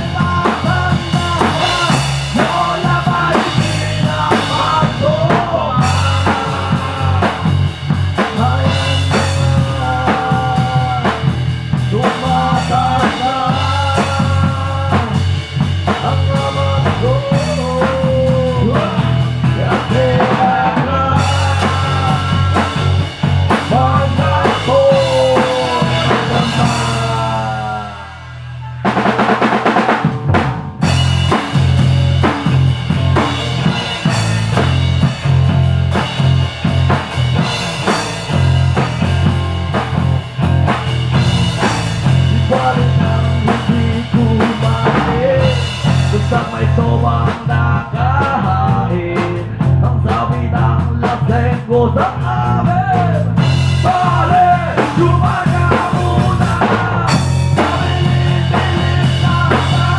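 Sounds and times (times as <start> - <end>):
drum kit beat: 0.0 - 59.9
rock band playing: 0.0 - 59.9.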